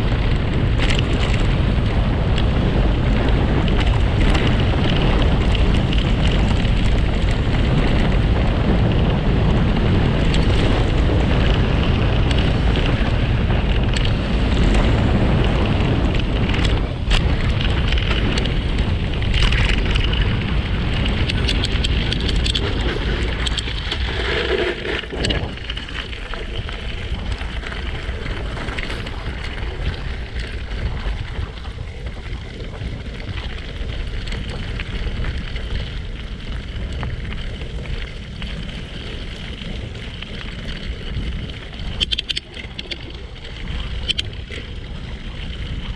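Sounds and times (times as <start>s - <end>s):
rumble of driving on gravel: 0.0s - 45.9s
wind buffeting microphone: 0.0s - 45.9s.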